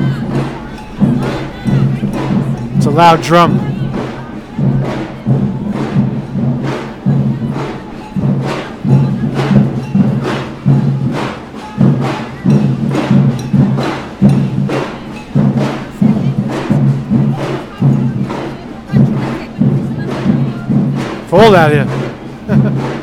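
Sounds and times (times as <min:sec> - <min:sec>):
drum beating: 0:00.0 - 0:23.0.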